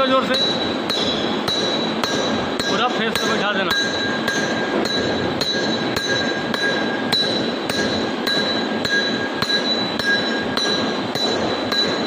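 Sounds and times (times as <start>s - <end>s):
hammer striking metal pipe: 0.0s - 12.0s
pipe ringing: 0.0s - 12.0s.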